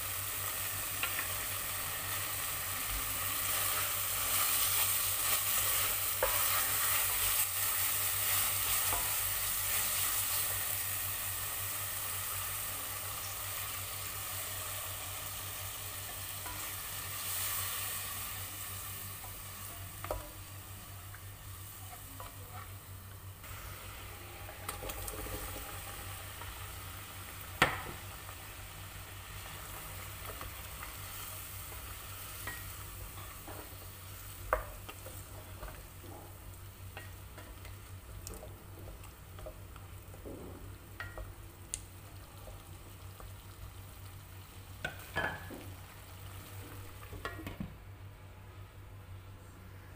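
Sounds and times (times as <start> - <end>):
spice paste sizzling in a pot: 0.0 - 47.4.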